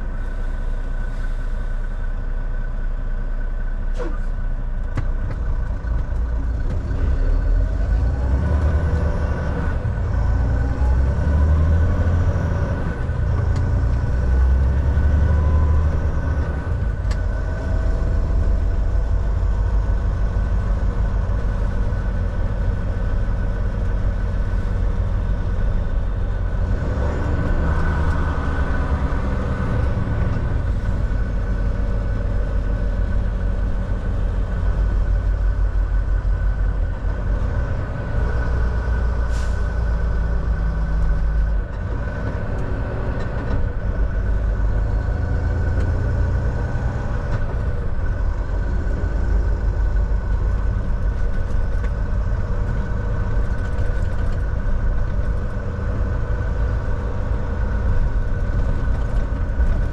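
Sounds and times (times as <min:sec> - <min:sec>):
road noise: 0:00.0 - 0:59.9
truck engine rumble: 0:00.0 - 0:59.9.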